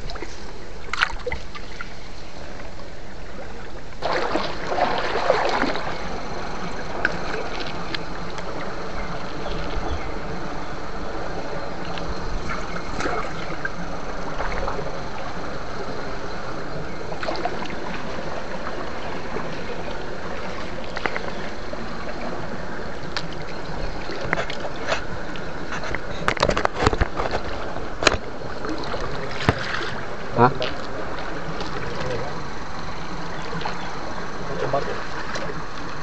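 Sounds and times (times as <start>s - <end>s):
water sloshing and gurgling: 0.0s - 36.0s.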